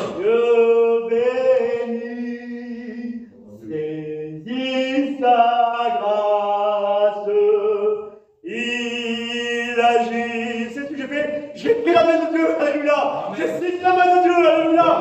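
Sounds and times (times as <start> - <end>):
man singing a hymn: 0.0 - 15.0.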